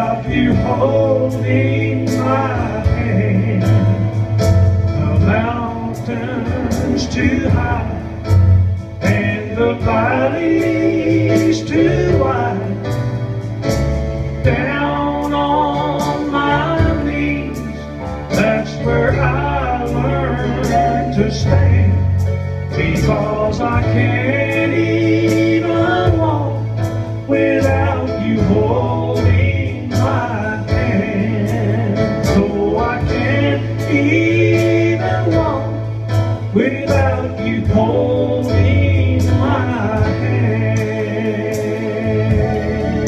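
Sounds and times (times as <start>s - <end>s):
man singing through pa: 0.0s - 4.2s, 4.9s - 8.4s, 9.0s - 13.0s, 14.4s - 43.0s
electronic keyboard accompaniment: 0.0s - 43.0s.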